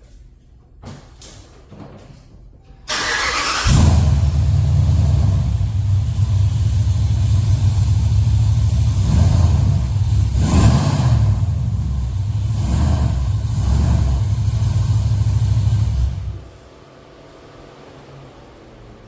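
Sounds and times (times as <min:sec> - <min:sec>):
car engine starting and idling: 0:02.9 - 0:19.0.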